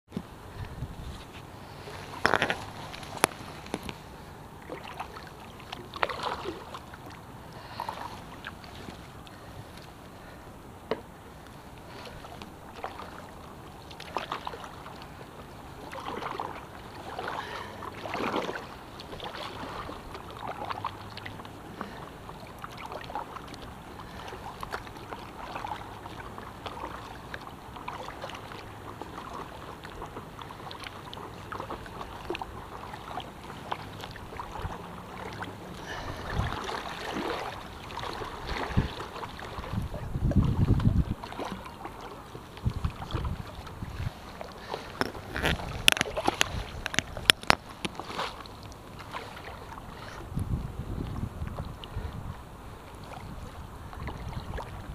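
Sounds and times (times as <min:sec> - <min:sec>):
paddle splashing in water: 0:00.1 - 0:54.9
water lapping along board: 0:00.1 - 0:54.9.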